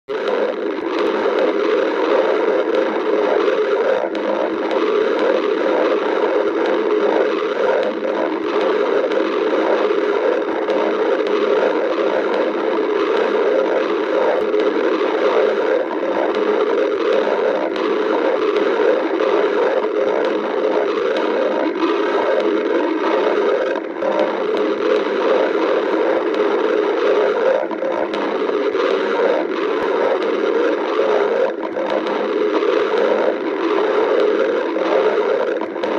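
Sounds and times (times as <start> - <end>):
stomach growling: 0.1 - 35.9.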